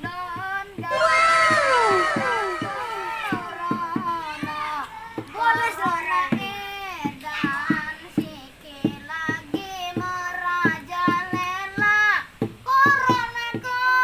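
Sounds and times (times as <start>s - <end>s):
knocking beat on a bucket: 0.0s - 0.9s, 2.1s - 14.0s
boy singing: 0.0s - 14.0s.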